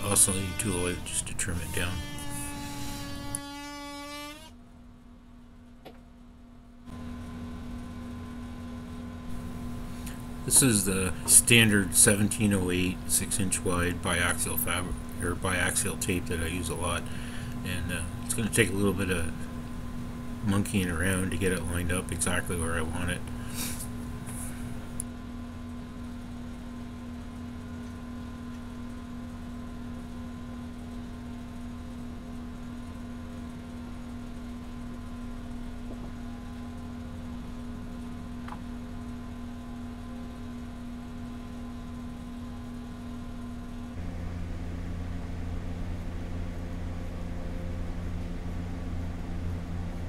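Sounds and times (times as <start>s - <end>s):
machine hum: 0.0s - 50.0s.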